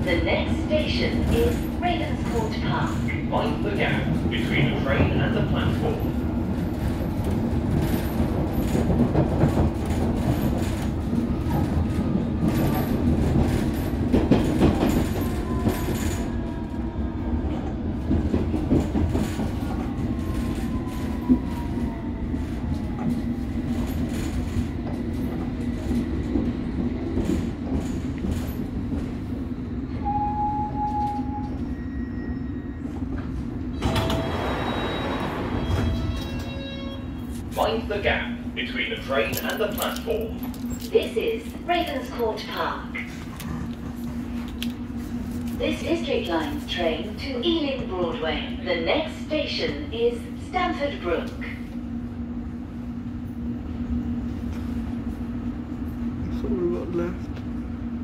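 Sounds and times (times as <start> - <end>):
train rumbling inside carriage: 0.0 - 58.0.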